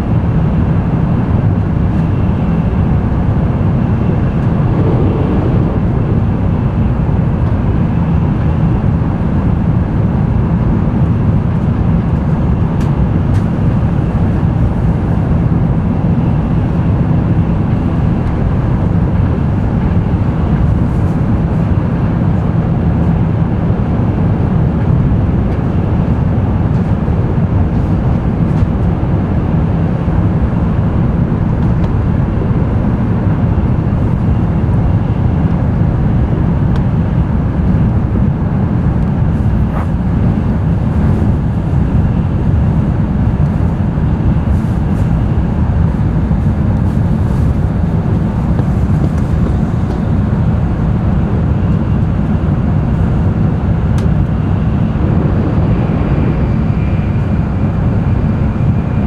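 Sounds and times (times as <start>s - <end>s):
train interior low rumble: 0.0s - 59.0s.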